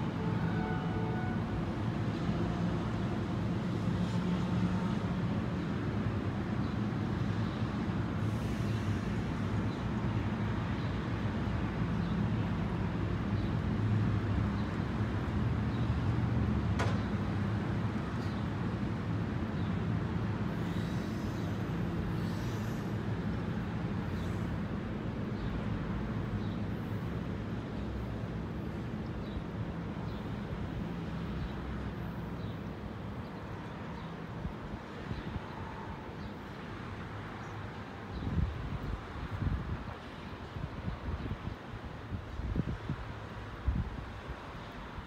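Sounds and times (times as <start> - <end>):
diesel locomotive engine rumbling: 0.0 - 45.0.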